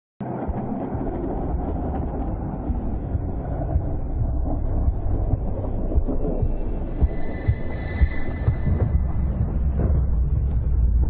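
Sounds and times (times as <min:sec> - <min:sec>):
dark low rumble: 0:00.2 - 0:11.0.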